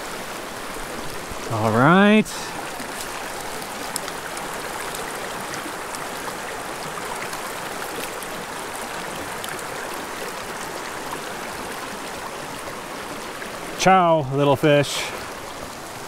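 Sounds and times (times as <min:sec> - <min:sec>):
creek flowing over rocks: 0:00.0 - 0:16.0.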